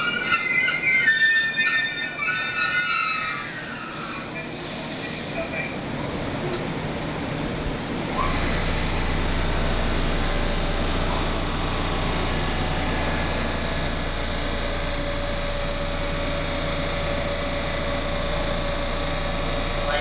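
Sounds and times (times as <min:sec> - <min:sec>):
thin steady whine: 0:03.7 - 0:20.0.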